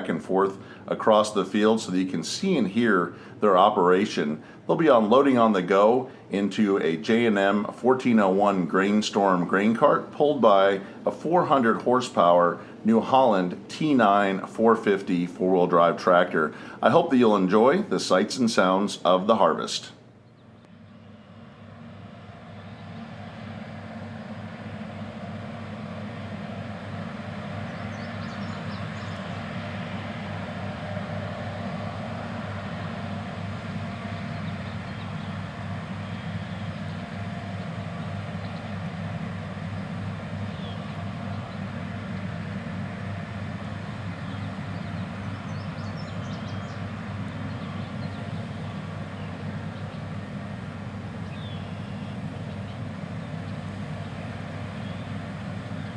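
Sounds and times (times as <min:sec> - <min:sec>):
combine harvester engine droning: 0:00.0 - 0:55.9.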